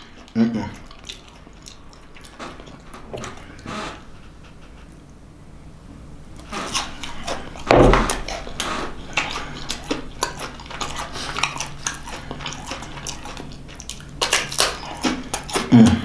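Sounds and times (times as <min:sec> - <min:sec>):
biting into a cracker: 0:00.0 - 0:03.6, 0:06.4 - 0:16.0
chewing and mouth smacks: 0:00.0 - 0:03.6, 0:06.4 - 0:16.0.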